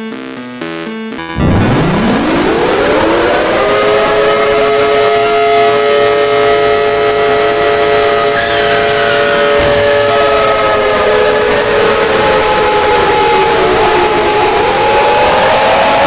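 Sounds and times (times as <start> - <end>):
alert siren chord: 1.2 - 16.0.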